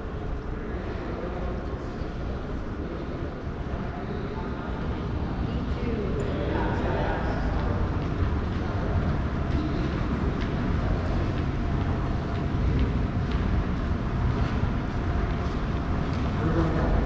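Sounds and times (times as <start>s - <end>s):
low rumble in a hall: 0.0s - 17.0s.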